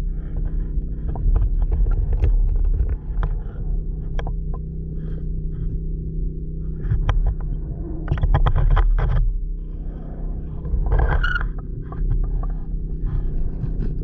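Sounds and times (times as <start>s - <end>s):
steady low underwater hum: 0.0s - 14.0s.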